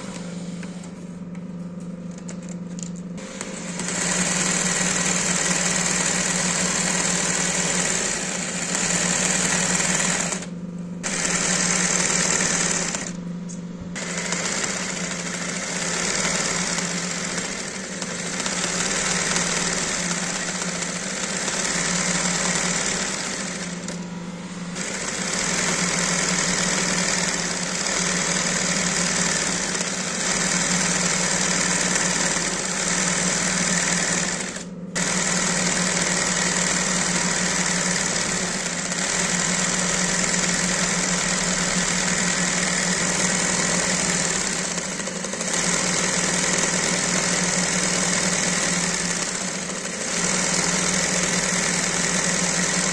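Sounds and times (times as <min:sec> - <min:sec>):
motor hum: 0:00.0 - 0:52.9
embroidery machine stitching: 0:02.1 - 0:13.3, 0:13.9 - 0:52.9.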